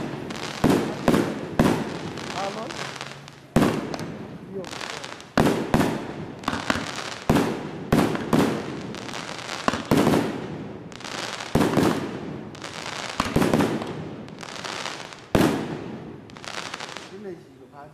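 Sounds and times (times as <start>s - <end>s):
firework bangs: 0.0s - 17.4s
firework crackling: 0.0s - 17.6s.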